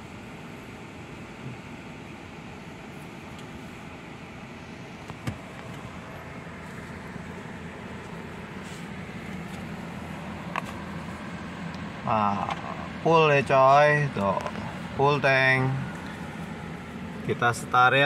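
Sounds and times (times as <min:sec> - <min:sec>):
motor vehicles running: 0:00.0 - 0:18.0.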